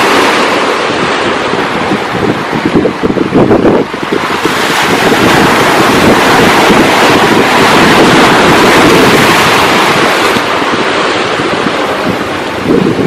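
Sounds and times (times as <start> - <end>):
sea surf rushing: 0.0 - 13.0
wind buffeting microphone: 0.0 - 13.0.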